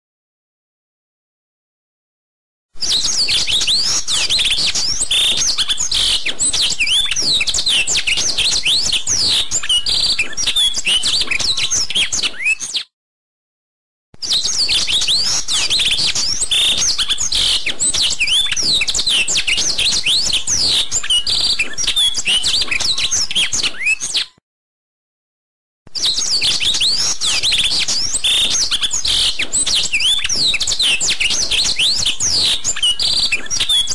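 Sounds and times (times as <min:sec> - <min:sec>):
small birds chirping: 0:02.8 - 0:12.9, 0:14.2 - 0:24.3, 0:26.0 - 0:33.9.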